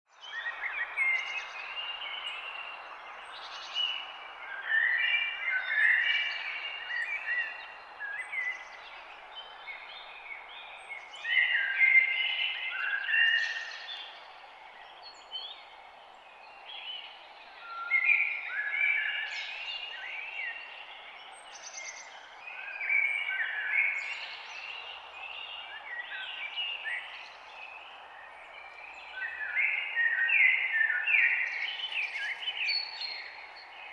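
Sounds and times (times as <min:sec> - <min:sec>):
songbirds chirping and singing: 0:00.2 - 0:33.9
forest ambience hiss: 0:00.3 - 0:33.9.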